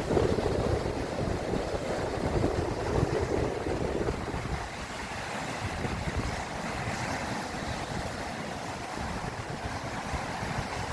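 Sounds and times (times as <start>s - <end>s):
surf washing onto a stony beach: 0.0s - 10.9s
wind rumbling on microphone: 0.0s - 10.9s.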